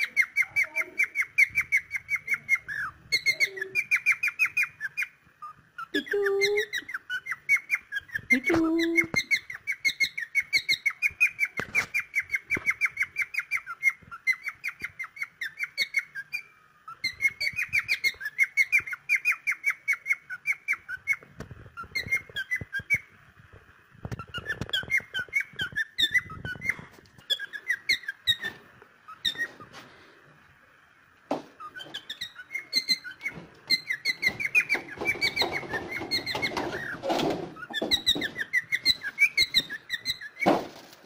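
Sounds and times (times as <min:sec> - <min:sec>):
cockatiel chirping: 0:00.0 - 0:23.1, 0:24.0 - 0:29.7, 0:31.6 - 0:40.6.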